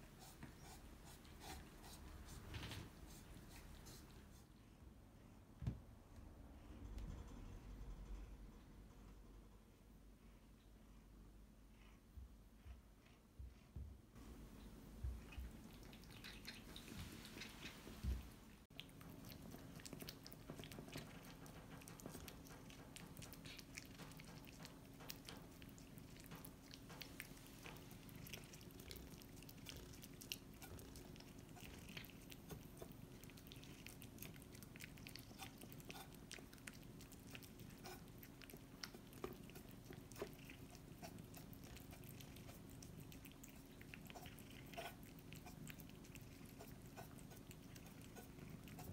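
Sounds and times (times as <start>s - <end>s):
cat licking and chewing food: 0.0s - 4.5s, 14.2s - 48.9s.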